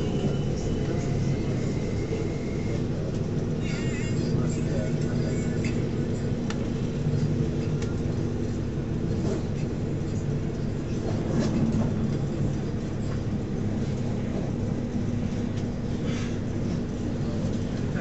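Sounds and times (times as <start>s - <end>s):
constant train hum: 0.0s - 18.0s.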